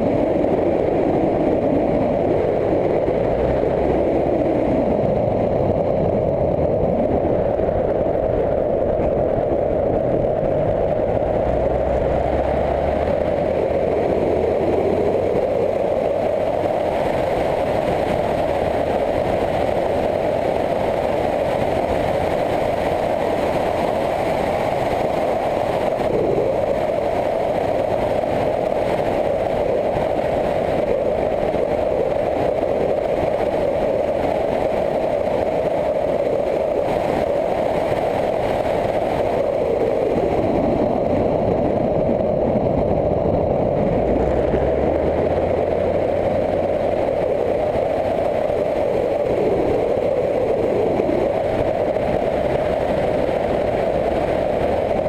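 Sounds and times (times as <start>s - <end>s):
motorcycle engine drone: 0.0s - 55.0s
wind rush: 0.0s - 55.0s.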